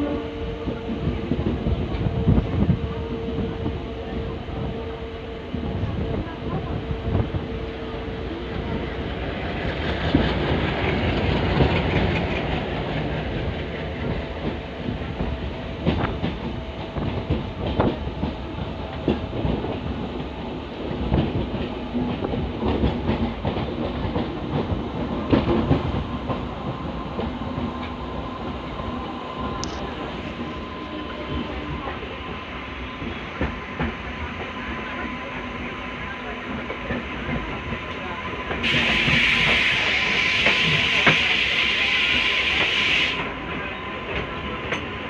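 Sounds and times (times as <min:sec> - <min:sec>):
diesel locomotives chugging: 0:00.0 - 0:45.0.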